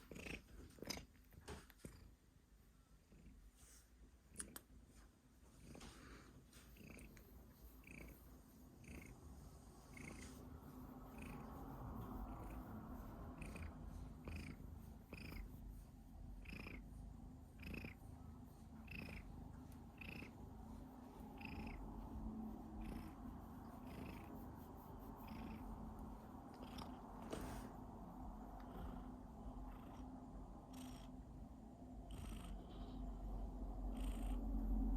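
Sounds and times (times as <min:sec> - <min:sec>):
cat purring with squeaks: 0:00.0 - 0:02.4, 0:05.4 - 0:34.9.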